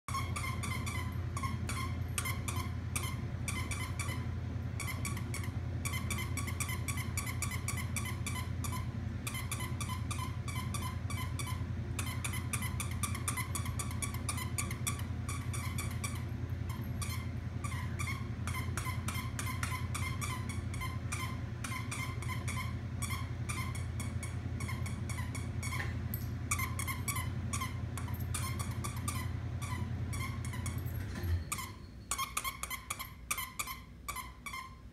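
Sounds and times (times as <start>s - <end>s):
squeaky toy squeaking: 0.1s - 25.9s, 26.5s - 30.8s, 31.4s - 34.9s
steady low hum: 0.1s - 34.9s.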